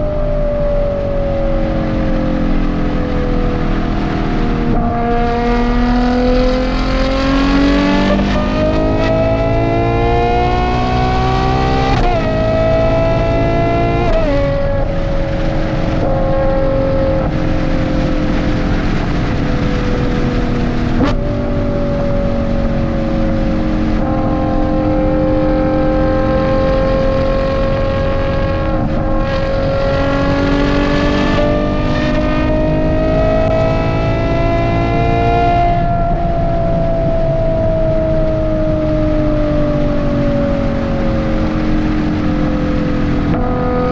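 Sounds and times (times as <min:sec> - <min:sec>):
sports car engine upshifting: 0:00.0 - 0:43.9.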